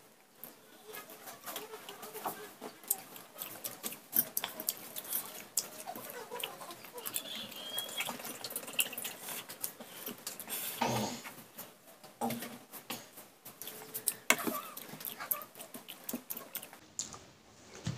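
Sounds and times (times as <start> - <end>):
wet chewing and lip smacking: 0.4 - 11.4, 13.6 - 17.2.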